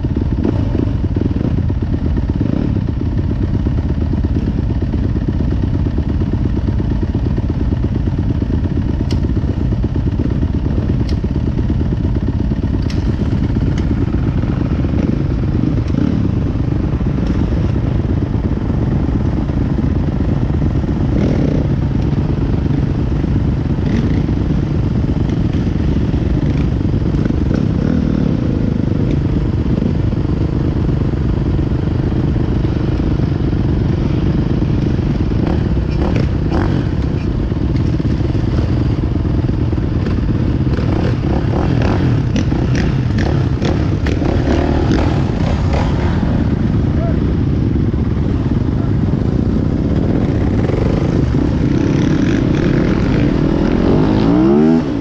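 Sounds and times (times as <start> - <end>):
dirt bike engine at low revs: 0.0 - 55.0
motorcycles running nearby: 0.0 - 55.0.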